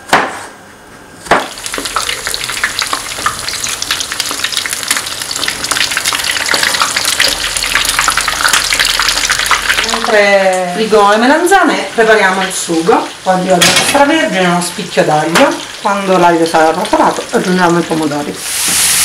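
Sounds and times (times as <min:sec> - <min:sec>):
slices sizzling in hot oil: 0:01.4 - 0:19.0.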